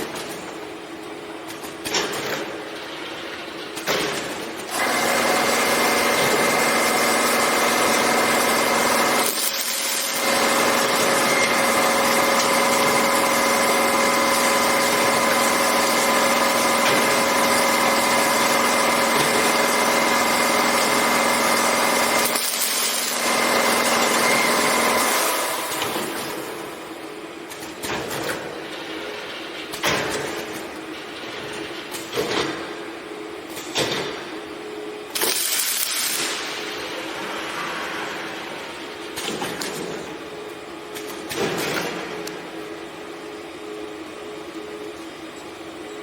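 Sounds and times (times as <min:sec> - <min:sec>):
welding machine humming and hissing: 0:00.0 - 0:46.0.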